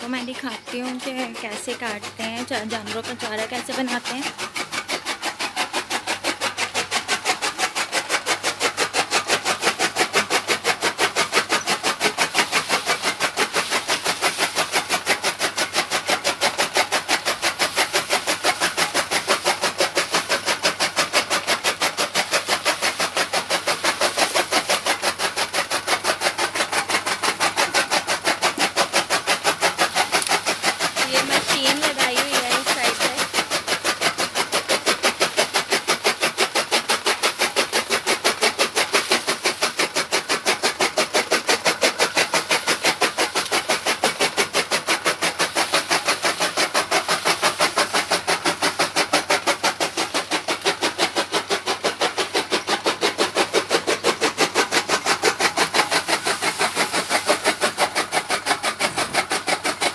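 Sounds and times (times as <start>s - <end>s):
chaff cutter chopping stalks: 0.0s - 59.9s.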